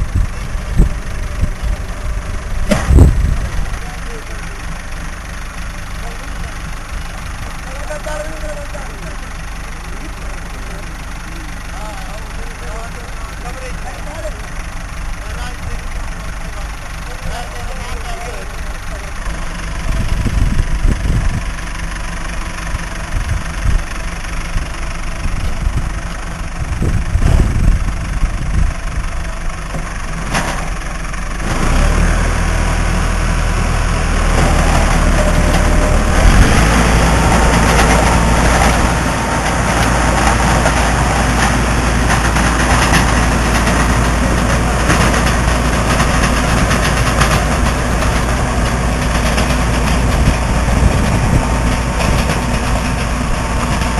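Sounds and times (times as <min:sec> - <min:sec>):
tractor engine driving a drill: 0:00.0 - 0:53.9.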